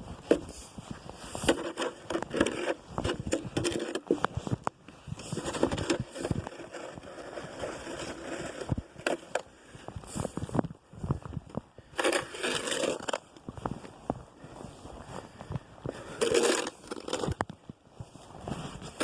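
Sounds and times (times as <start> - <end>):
crunching and scraping of snow: 0.0 - 19.0.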